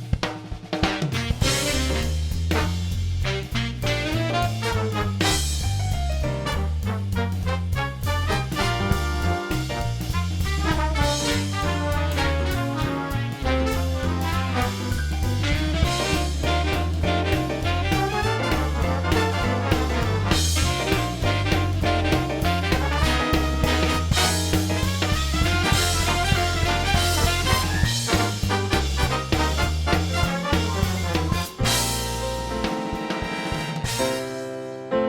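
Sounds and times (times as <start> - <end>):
up-tempo swing jazz with brass: 0.0 - 35.0.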